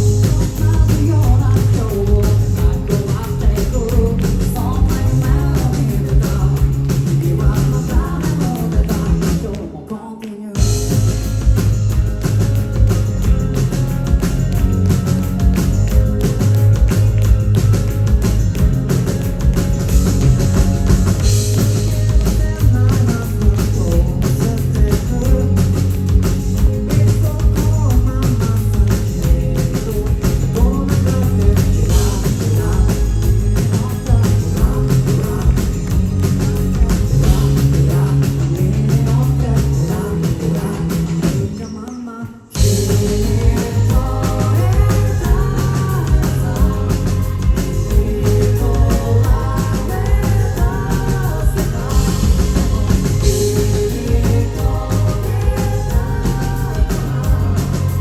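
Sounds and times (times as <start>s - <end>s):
bass guitar: 0.0s - 9.8s, 10.6s - 41.7s, 42.6s - 58.0s
person singing: 0.0s - 11.9s, 14.1s - 58.0s
drums: 0.0s - 58.0s
electric guitar: 0.0s - 58.0s.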